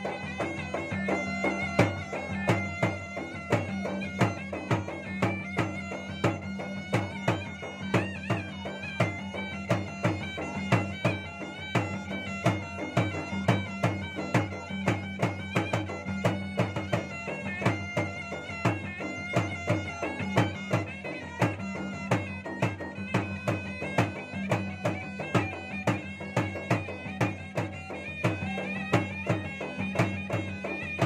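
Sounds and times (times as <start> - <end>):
drums struck in a fast pattern: 0.0 - 31.0
wavering wind pipe melody: 0.0 - 31.0.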